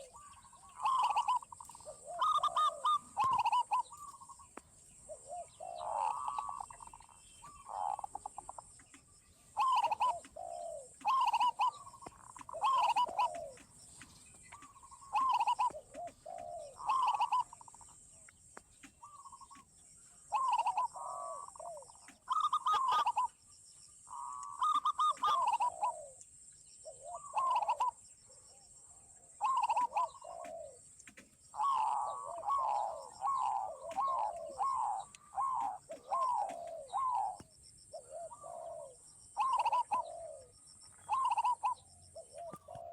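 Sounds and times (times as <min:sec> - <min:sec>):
doves cooing: 0:00.0 - 0:23.4, 0:24.0 - 0:42.9.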